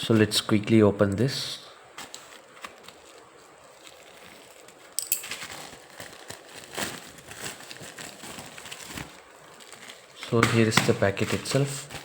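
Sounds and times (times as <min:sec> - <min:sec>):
packaging crinkling and rustling: 0:01.9 - 0:12.0.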